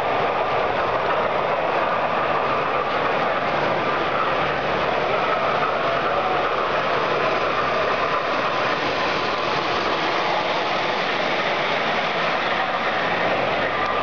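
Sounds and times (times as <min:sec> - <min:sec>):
metal wheels rattling on track: 0:00.0 - 0:14.0.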